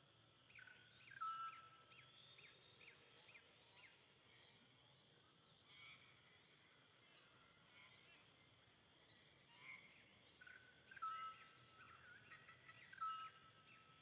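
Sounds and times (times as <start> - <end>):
faint birdsong: 0.0 - 14.0
quiet outdoor hiss: 0.0 - 14.0.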